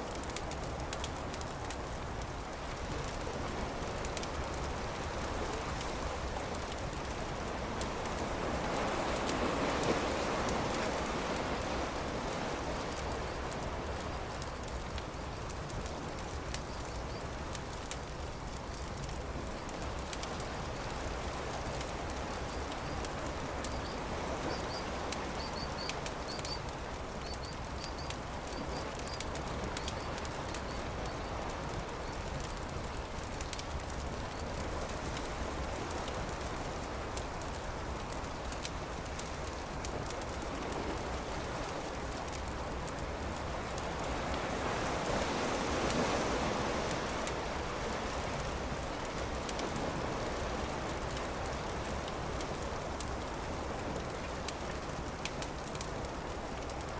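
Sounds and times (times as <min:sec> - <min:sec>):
campfire crackling and popping: 0:00.1 - 0:56.9.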